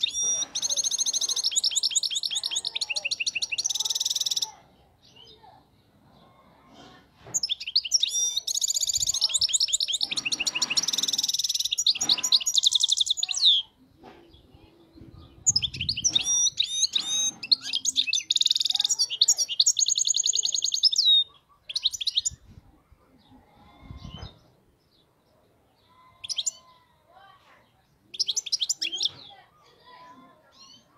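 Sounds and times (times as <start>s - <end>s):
songbird twittering and trilling: 0.0s - 6.4s, 7.2s - 27.0s, 27.6s - 30.9s.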